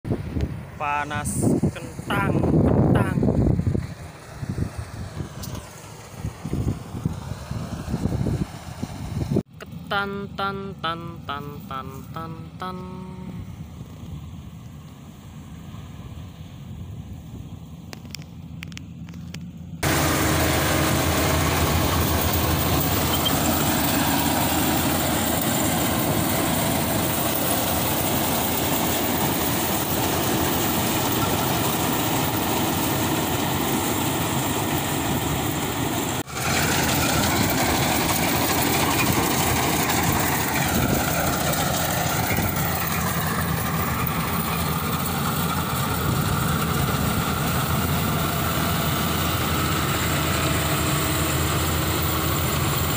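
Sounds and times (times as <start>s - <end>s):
combine harvester engine hum: 0.1s - 52.9s.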